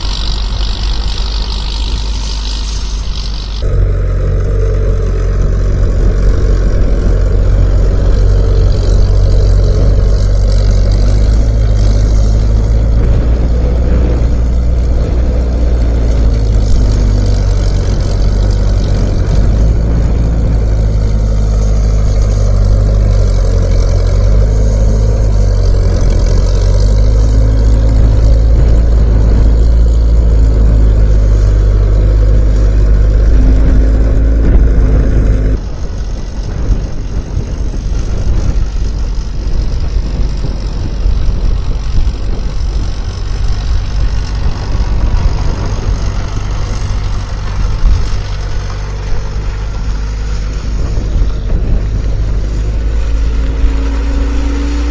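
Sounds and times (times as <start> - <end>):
rough noisy rumble: 0.0 - 54.9
skid steer engine under load: 0.0 - 54.9.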